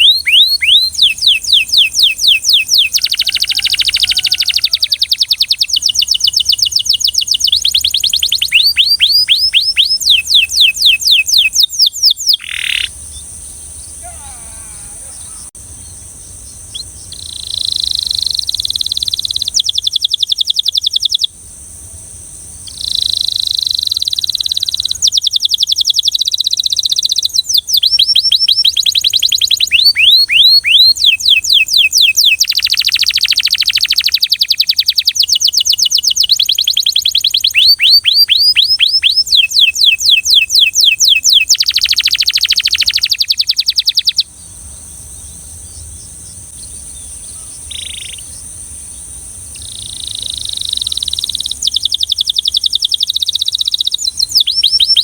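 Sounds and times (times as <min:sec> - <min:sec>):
canary singing trills: 0:00.0 - 0:21.4, 0:22.6 - 0:55.0.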